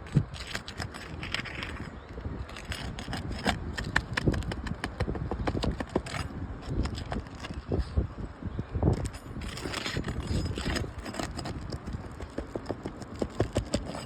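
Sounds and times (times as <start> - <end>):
hand tools tapping and scraping shingles: 0.0 - 7.8, 9.0 - 14.0.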